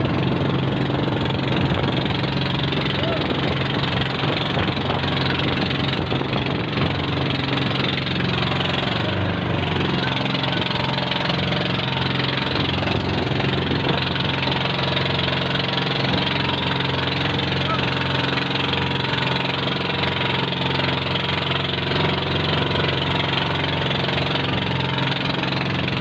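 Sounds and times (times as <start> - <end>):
small boat engine droning: 0.0 - 26.0.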